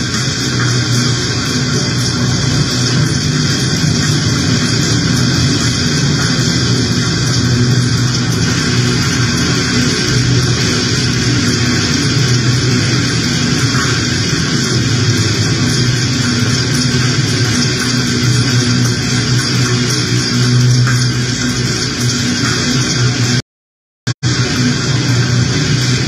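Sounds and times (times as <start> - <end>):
low hum: 0.0 - 23.4, 24.2 - 26.0
noise music with guitar drone: 0.0 - 23.4, 24.2 - 26.0.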